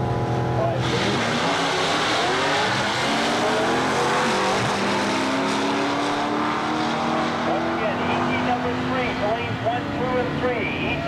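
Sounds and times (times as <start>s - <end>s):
drag racing cars accelerating: 0.0s - 11.0s.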